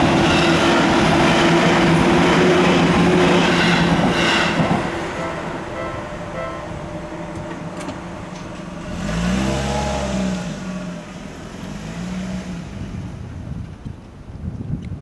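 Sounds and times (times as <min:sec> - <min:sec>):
car engine passing by: 0:01.0 - 0:13.3.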